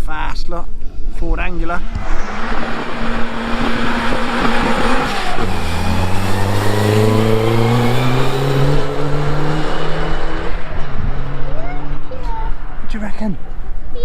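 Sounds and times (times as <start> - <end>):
race car engine accelerating: 1.6 - 13.8.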